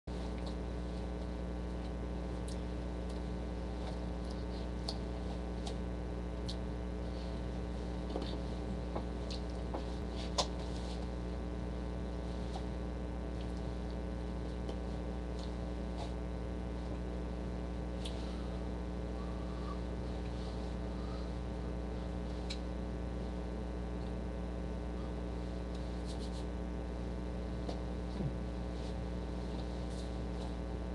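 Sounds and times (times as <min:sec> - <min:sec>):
electrical mains hum: 0:00.0 - 0:30.9.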